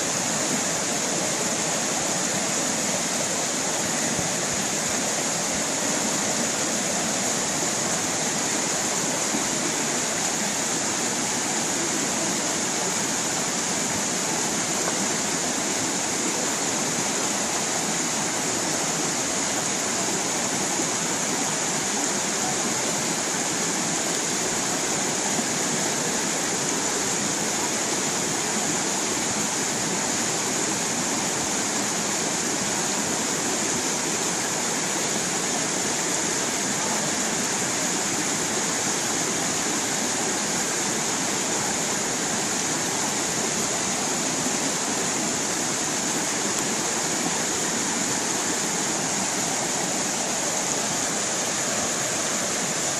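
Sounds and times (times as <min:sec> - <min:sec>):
stream water rushing over rocks: 0:00.0 - 0:52.9.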